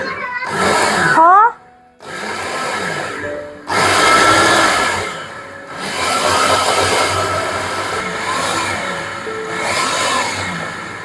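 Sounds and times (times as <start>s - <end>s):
electric food chopper running: 0.4s - 1.4s, 2.0s - 11.0s.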